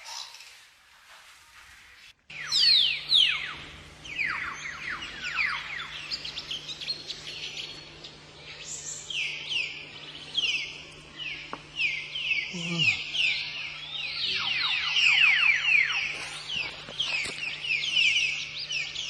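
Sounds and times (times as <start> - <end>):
steady low hum: 2.2 - 19.0.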